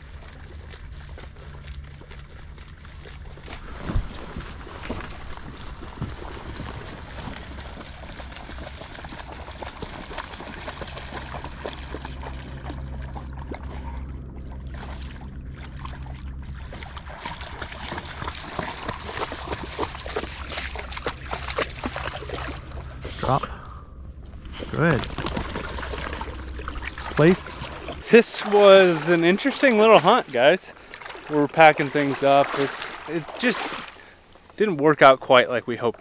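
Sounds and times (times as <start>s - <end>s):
dog splashing through water: 0.0s - 23.2s, 24.6s - 34.2s.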